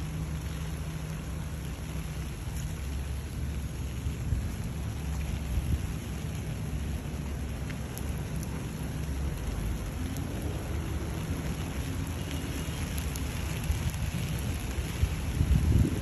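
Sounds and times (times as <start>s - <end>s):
rain on asphalt: 0.0s - 16.0s.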